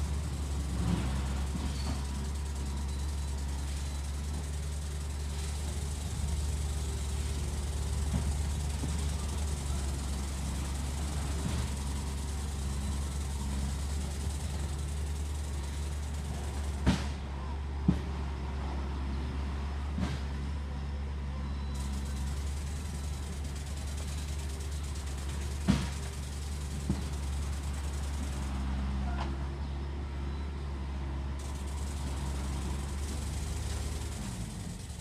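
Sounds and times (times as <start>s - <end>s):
construction machinery engine hum: 0.0s - 35.0s.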